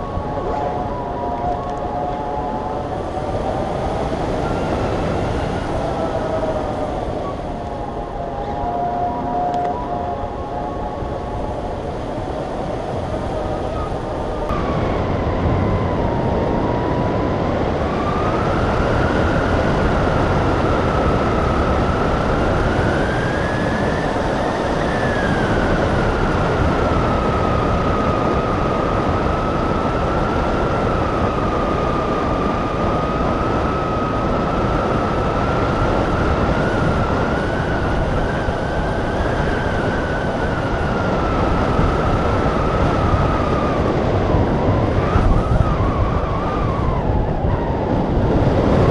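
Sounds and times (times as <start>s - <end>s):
wind rush with high whistle: 0.0s - 48.9s.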